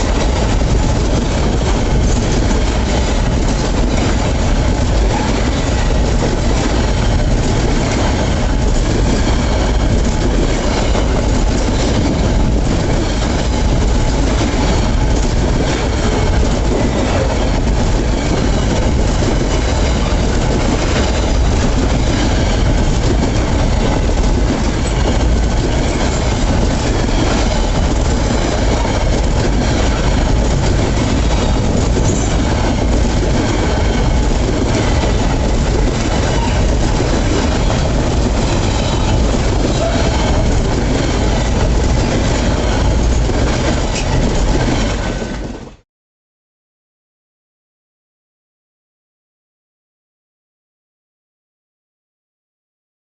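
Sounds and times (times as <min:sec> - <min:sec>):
freight train wagons rumbling: 0:00.0 - 0:45.8.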